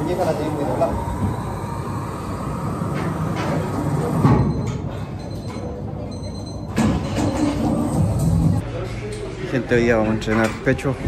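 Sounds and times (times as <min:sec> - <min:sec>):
busy gym rumble: 0:00.0 - 0:11.0.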